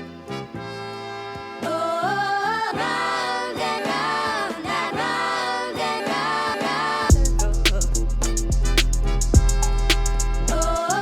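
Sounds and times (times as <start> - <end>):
choir-style singing: 1.5 - 11.0.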